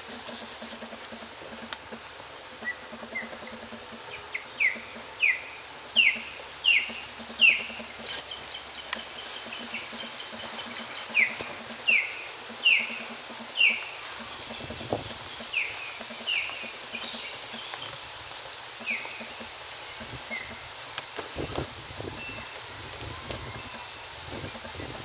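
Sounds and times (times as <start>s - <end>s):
bird calling: 0.0s - 20.7s.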